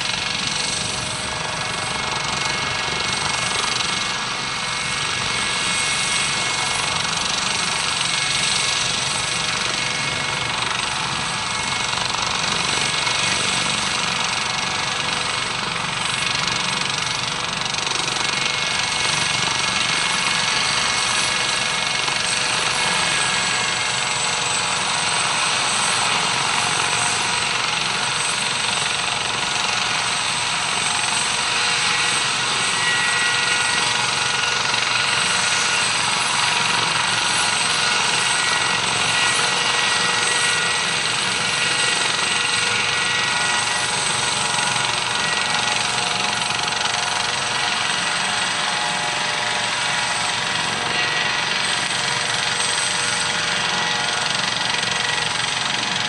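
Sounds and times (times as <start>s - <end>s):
helicopter rotors: 0.0s - 56.0s
helicopter turbine whine: 0.0s - 56.0s.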